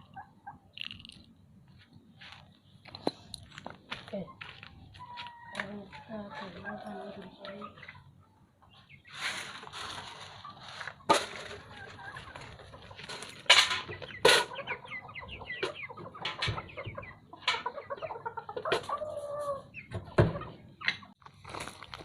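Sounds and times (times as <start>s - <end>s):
chickens clucking and chirping: 0.0s - 21.2s.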